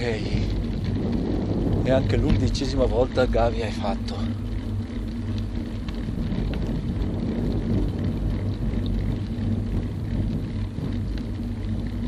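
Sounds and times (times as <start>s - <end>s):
constant low hum: 0.0s - 12.0s
road noise: 0.0s - 12.0s
wind rumble on microphone: 0.0s - 12.0s.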